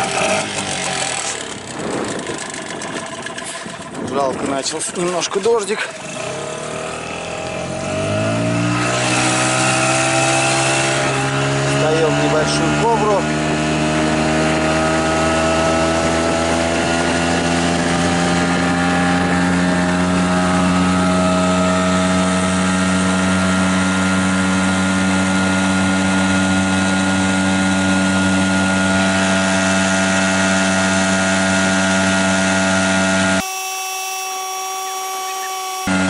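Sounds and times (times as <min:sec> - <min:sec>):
outboard motor running: 0:00.0 - 0:36.0
wind: 0:00.0 - 0:36.0.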